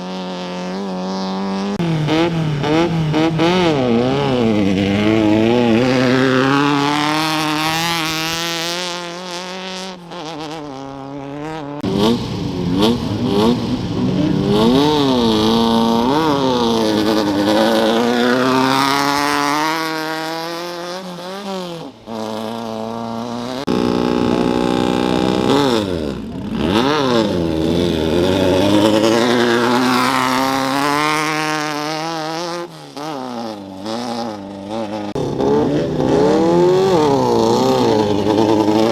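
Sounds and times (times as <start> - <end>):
race engines revving hard: 0.0 - 38.9.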